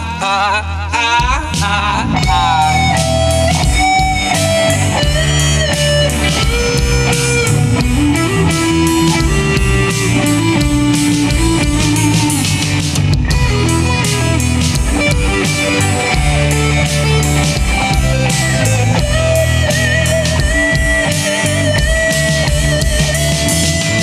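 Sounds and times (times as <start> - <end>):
bass guitar: 0.0 - 24.0
drums: 0.0 - 24.0
lead electric guitar: 0.0 - 24.0
rhythm guitar: 1.0 - 24.0.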